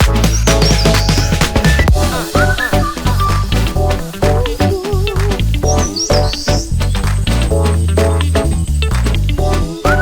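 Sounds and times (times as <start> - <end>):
music with beat and bass: 0.0 - 10.0.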